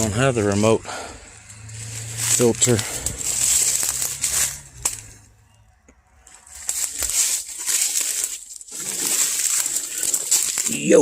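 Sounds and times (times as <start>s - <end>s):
footsteps through dry brush: 0.0s - 5.3s, 6.2s - 11.0s
twigs snapping: 1.4s - 11.0s.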